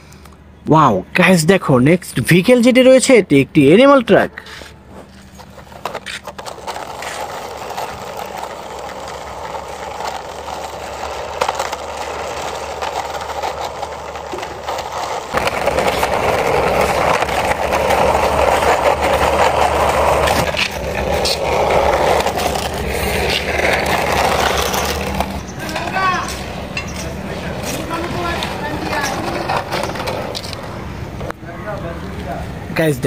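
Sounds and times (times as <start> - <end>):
toy truck wheels rolling on concrete: 3.6 - 32.4.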